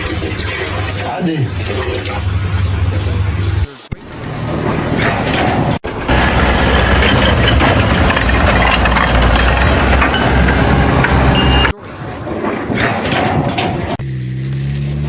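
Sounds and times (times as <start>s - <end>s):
heavy engine rumbling and clattering: 0.0s - 15.0s.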